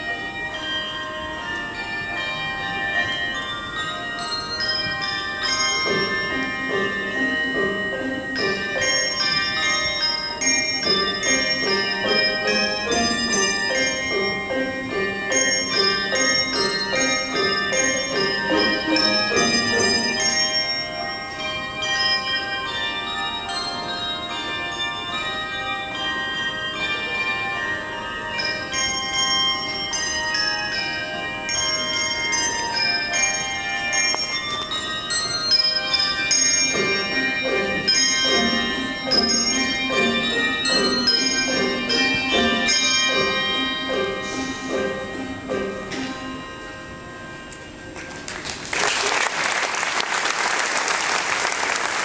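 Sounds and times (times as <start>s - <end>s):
handbells ringing a tune: 0.0s - 50.3s
lower-pitched bells rhythm: 0.0s - 52.0s.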